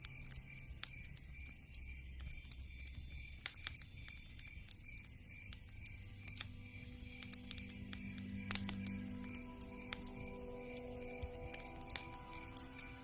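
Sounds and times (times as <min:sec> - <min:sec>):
campfire crackling and popping: 0:00.0 - 0:13.0
night insects chirping: 0:00.0 - 0:13.0.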